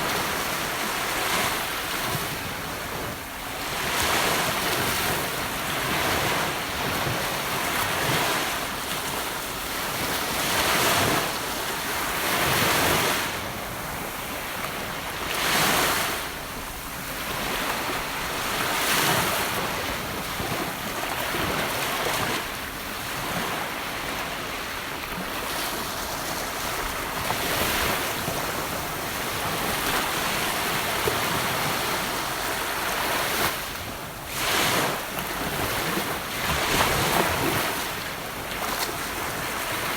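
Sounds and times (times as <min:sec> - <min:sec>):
ocean waves breaking on a beach: 0:00.0 - 0:39.9.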